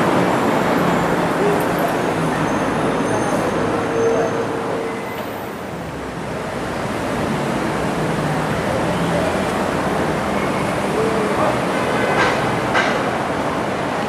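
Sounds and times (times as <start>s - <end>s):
cars and buses passing: 0.0s - 14.0s.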